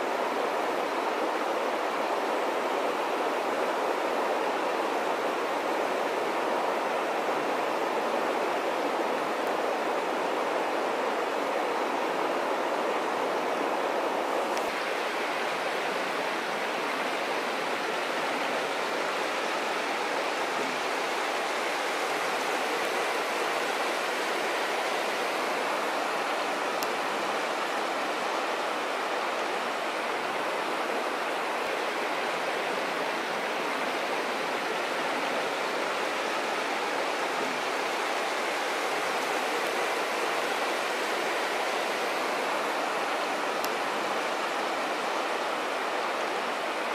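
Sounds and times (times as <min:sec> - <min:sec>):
flowing water rushing: 0:00.0 - 0:46.9.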